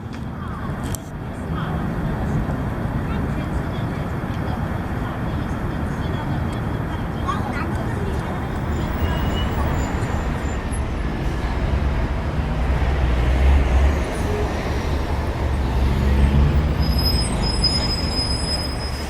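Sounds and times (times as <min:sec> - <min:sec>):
low outdoor rumble: 0:00.2 - 0:19.0.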